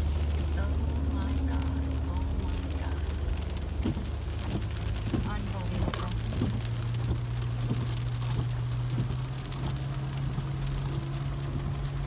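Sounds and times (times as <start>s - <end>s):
heavy rain on car roof: 0.0s - 12.0s
low hum of moving car: 0.0s - 12.0s.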